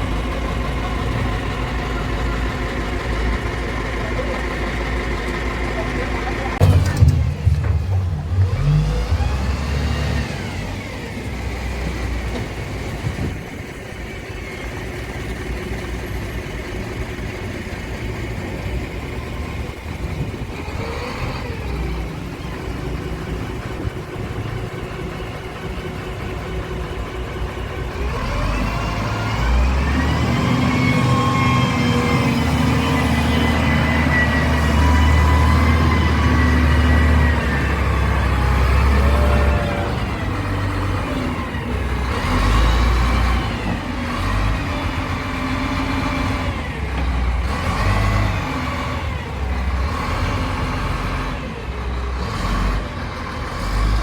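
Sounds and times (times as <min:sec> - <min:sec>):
heavy vehicle engine revving: 0:00.0 - 0:54.0.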